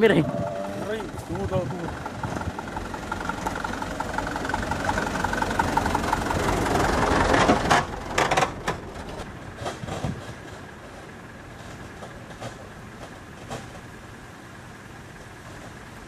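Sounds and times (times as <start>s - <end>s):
truck diesel engine passing: 0.0s - 16.0s.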